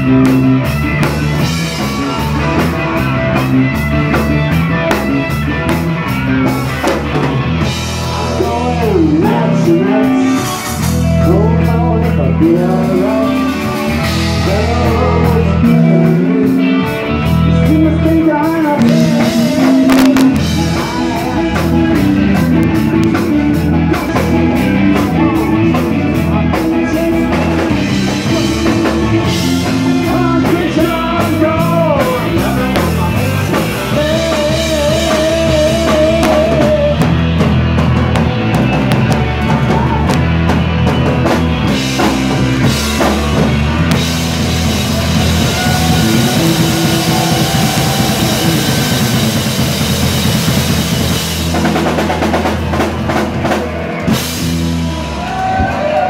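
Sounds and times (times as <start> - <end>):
live band playing rock music: 0.0 - 56.0.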